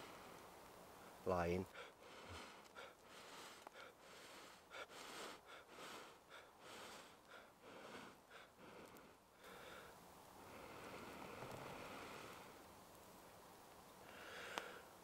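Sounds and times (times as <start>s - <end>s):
faint puffs of breath blowing: 0.0s - 12.6s, 14.0s - 15.0s.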